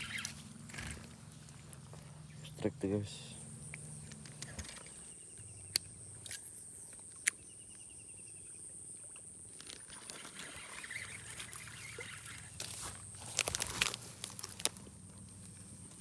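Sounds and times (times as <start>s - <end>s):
faint chirping trills: 0.0s - 13.3s
insects buzzing: 0.0s - 16.0s.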